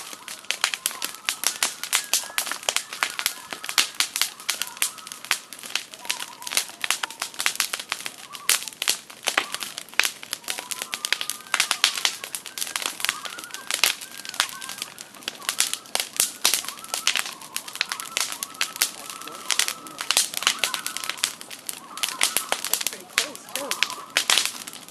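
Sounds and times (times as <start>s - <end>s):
campfire crackling and popping: 0.0s - 24.9s
loons wailing: 0.0s - 24.9s.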